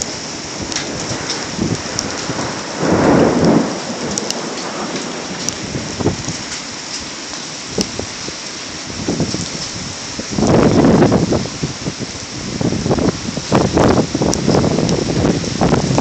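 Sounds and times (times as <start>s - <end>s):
sharp clicks of raindrops: 0.0s - 16.0s
steady rain: 0.0s - 16.0s
thunder rumble: 0.0s - 16.0s.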